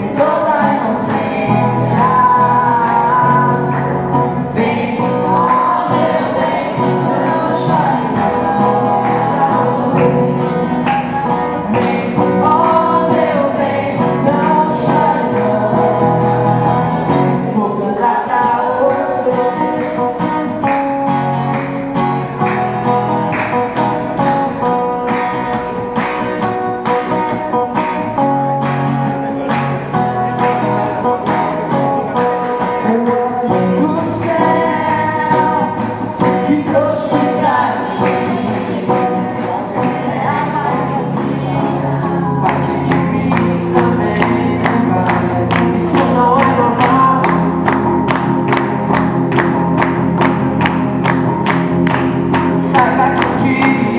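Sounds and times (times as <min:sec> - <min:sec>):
song with guitar and singing: 0:00.0 - 0:53.9.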